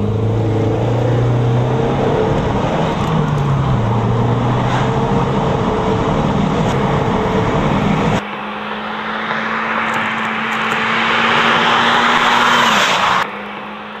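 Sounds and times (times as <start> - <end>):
car engine and exhaust droning: 0.0 - 14.0
road noise: 0.0 - 14.0.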